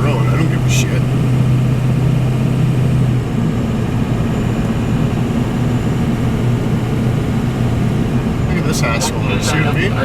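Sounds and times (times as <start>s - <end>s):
diesel truck engine running: 0.0s - 10.0s
road noise: 0.0s - 10.0s.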